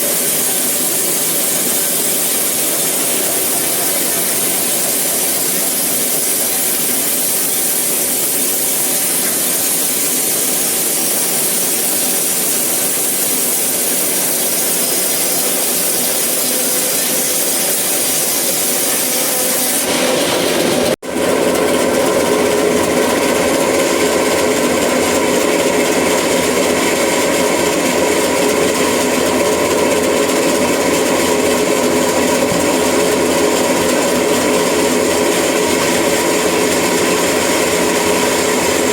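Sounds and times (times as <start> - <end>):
sawmill saw cutting wood: 0.0 - 38.9.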